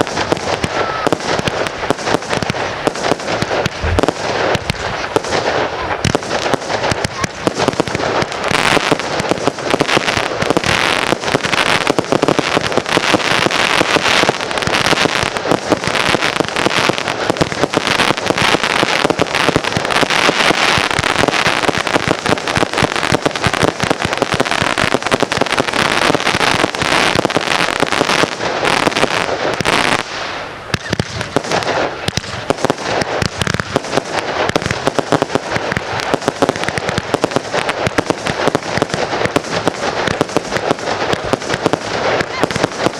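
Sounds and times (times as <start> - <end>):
fireworks banging and crackling: 0.0 - 42.9.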